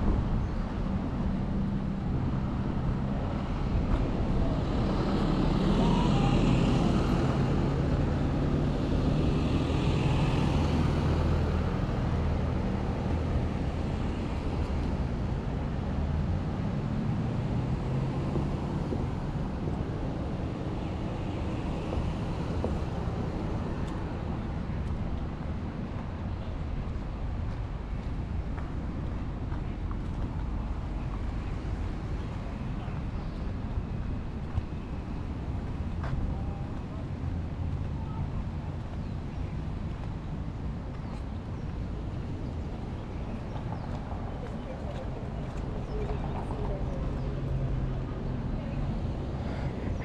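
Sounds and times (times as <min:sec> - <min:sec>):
motor vehicles passing: 0:00.0 - 0:50.0.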